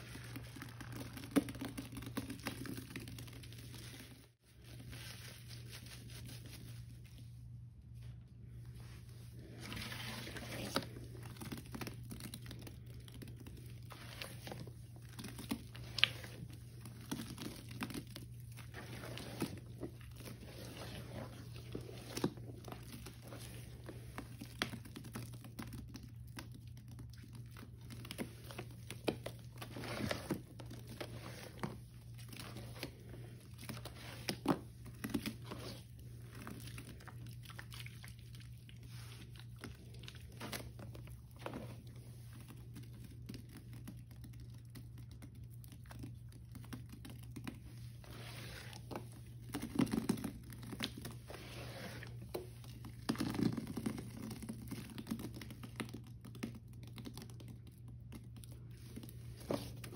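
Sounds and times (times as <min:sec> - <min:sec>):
hands squishing wet paste: 0:00.0 - 0:59.9.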